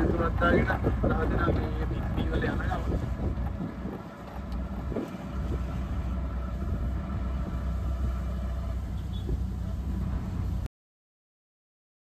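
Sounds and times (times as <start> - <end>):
rickshaw engine rumbling: 0.0 - 10.7
road noise: 0.0 - 10.7.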